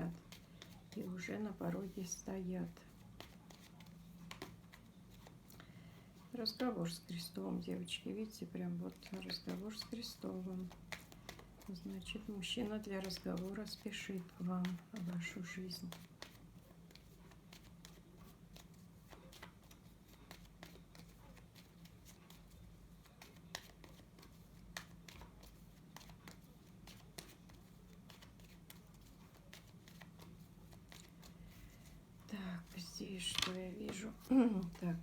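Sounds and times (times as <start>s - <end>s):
cards clicking and rustling: 0.1s - 5.8s, 8.9s - 32.0s, 32.6s - 34.9s.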